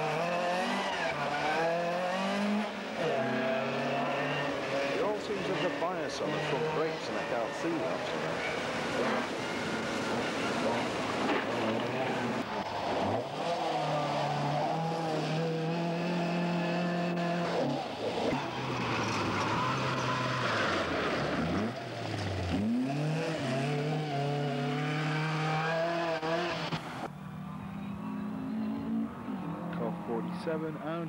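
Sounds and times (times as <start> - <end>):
rally car engine at high revs: 0.0 - 27.1, 27.7 - 31.0.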